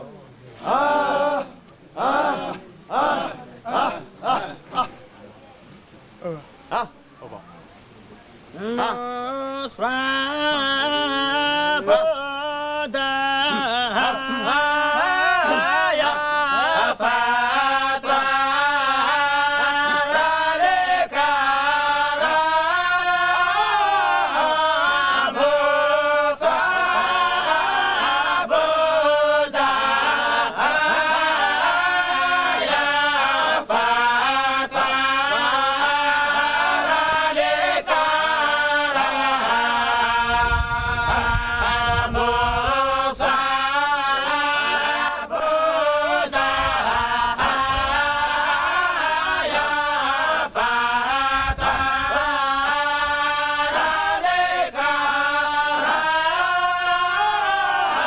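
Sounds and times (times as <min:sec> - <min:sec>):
men chanting in unison: 0:00.6 - 0:05.0, 0:08.6 - 0:58.0.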